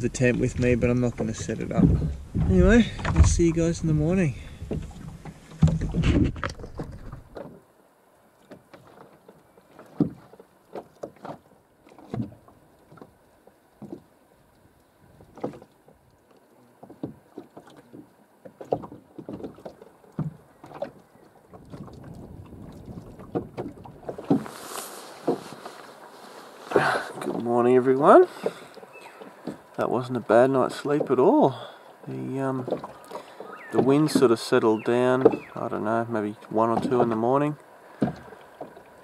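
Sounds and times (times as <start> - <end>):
water lapping against boat hull: 0.0 - 39.0.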